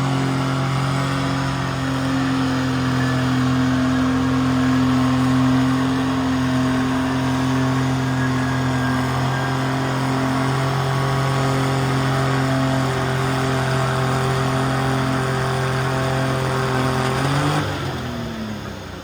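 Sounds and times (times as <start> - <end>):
tractor engine running hard: 0.0 - 19.0.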